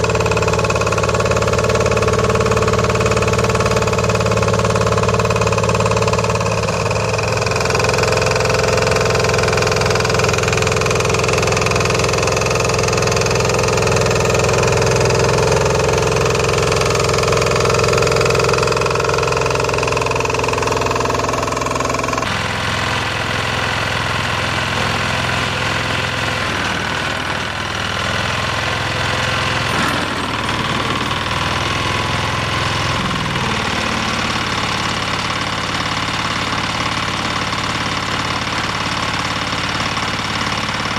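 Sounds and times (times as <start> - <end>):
walk-behind tractor engine knocking: 0.0 - 40.9.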